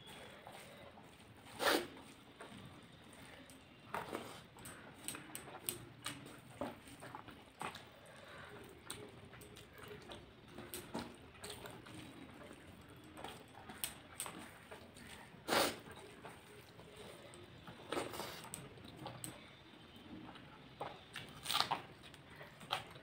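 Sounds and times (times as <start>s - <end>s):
chewing and lip-smacking: 0.0s - 23.0s.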